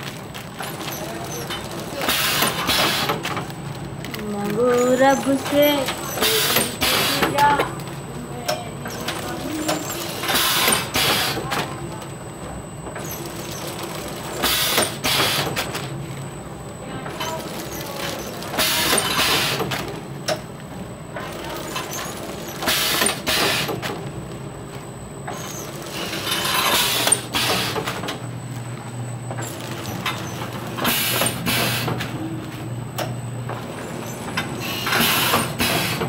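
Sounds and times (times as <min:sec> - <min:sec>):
packing machine running: 0:00.0 - 0:36.0.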